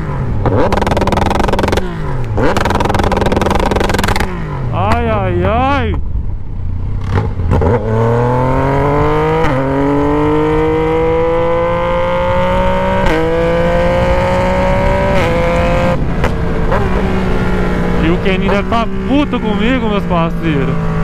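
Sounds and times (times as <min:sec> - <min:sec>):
motorcycle engine accelerating hard: 0:00.0 - 0:05.8, 0:06.4 - 0:21.0.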